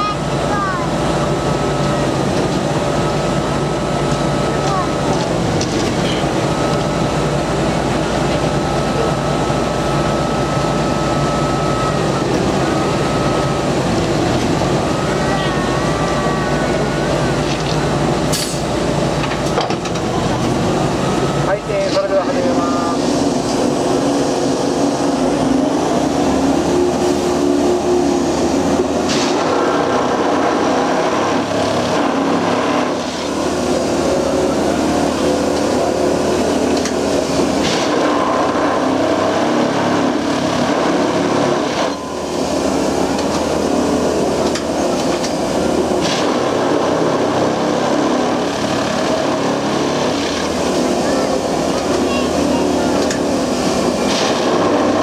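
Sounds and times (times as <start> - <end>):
track tamping machine din: 0.0 - 55.0.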